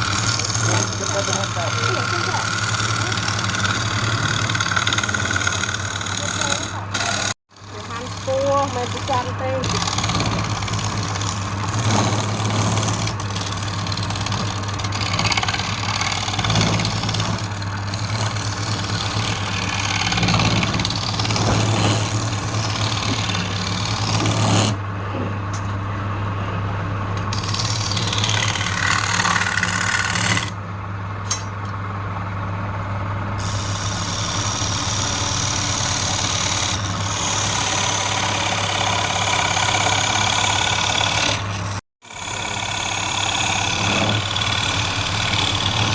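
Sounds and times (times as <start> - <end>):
lathe motor hum: 0.0 - 24.9, 27.2 - 30.6, 33.3 - 45.9
tool scraping spinning wood: 0.0 - 25.8, 27.2 - 30.6, 33.3 - 45.9.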